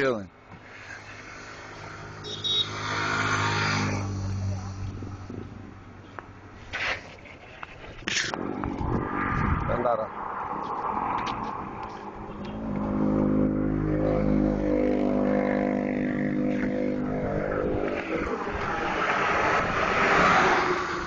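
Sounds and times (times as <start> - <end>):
traffic road noise: 0.0 - 21.0
vehicle engine passing: 1.0 - 5.5, 8.5 - 21.0.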